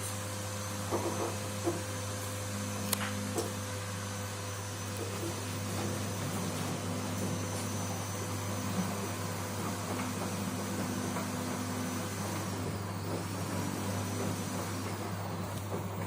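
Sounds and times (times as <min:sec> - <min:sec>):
faint motor whine: 0:00.0 - 0:16.0
washing machine humming: 0:00.0 - 0:16.0.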